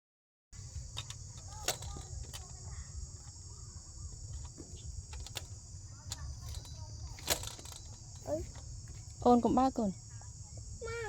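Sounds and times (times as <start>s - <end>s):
insects droning: 0.6s - 11.0s.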